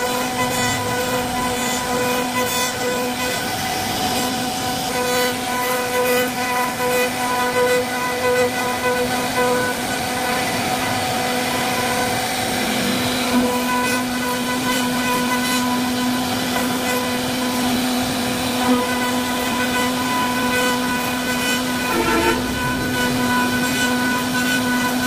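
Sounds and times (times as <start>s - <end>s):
router motor whine: 0.0s - 25.0s.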